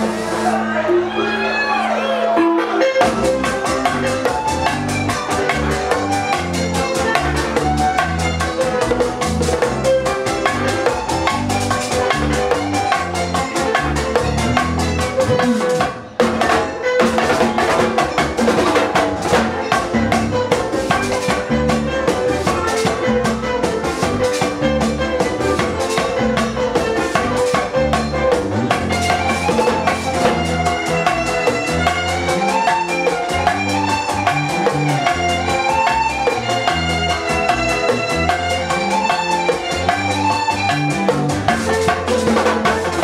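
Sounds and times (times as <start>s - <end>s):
congas: 0.0s - 43.0s
live latin band playing: 0.0s - 43.0s.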